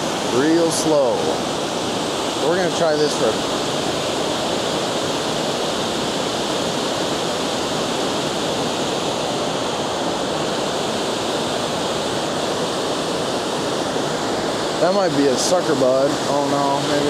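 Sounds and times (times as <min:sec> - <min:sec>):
water rushing over a spillway: 0:00.0 - 0:17.0.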